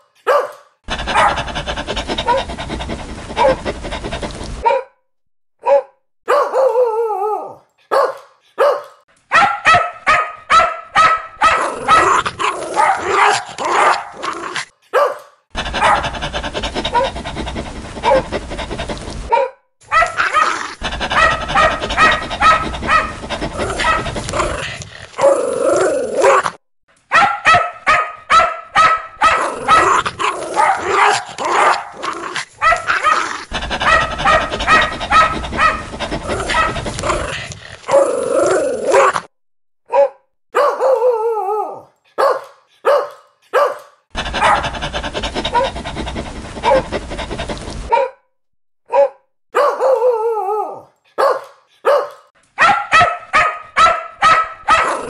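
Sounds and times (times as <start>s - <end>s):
dogs barking aggressively: 0.0s - 4.8s, 7.8s - 39.3s, 42.1s - 48.1s, 49.6s - 50.0s, 51.1s - 55.0s.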